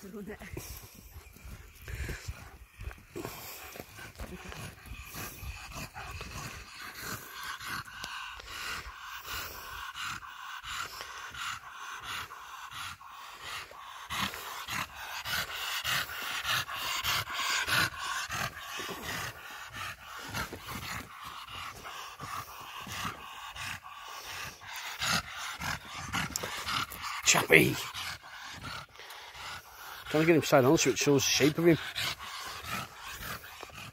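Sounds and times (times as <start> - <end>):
dog panting: 0.0 - 33.9.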